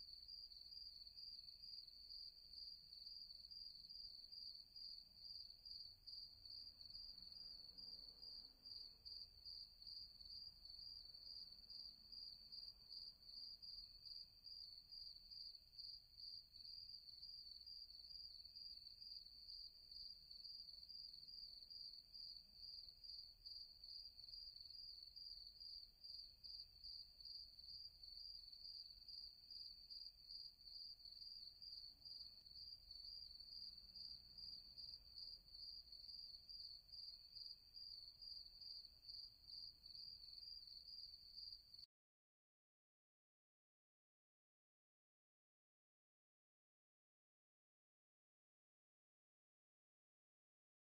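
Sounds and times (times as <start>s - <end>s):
crickets chirping: 0.1s - 41.8s.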